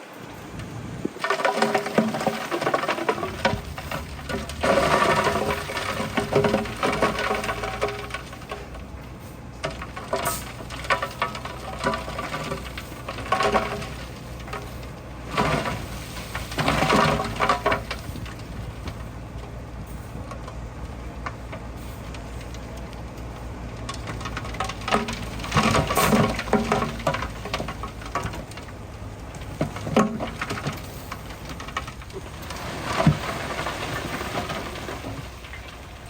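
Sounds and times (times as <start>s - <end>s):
bulldozer diesel engine running: 0.0s - 36.0s
stone crunching and clattering: 1.1s - 8.9s, 9.6s - 19.3s, 23.8s - 36.0s.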